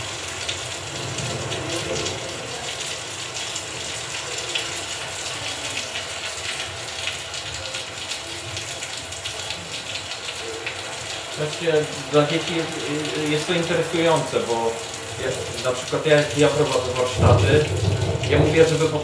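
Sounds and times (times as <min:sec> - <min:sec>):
rain pouring over loudspeakers: 0:00.0 - 0:19.0.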